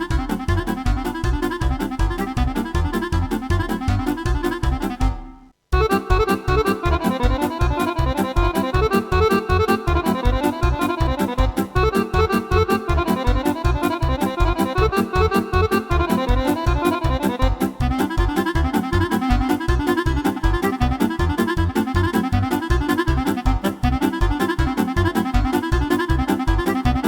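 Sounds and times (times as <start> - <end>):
keyboard drum and bass accompaniment: 0.0 - 27.0
pitched keyboard voice: 0.0 - 27.0.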